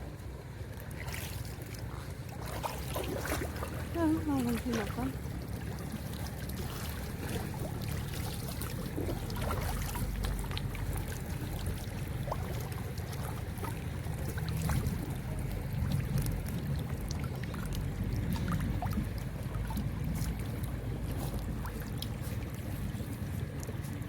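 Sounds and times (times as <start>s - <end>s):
river water trickling: 0.0s - 24.0s
small clicks and splashes: 0.7s - 24.0s
wind rumble on microphone: 1.9s - 24.0s.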